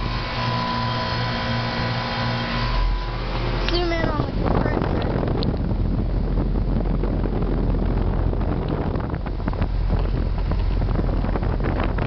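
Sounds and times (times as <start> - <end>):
condenser fan air rush: 0.0 - 12.0
low compressor hum: 0.0 - 12.0.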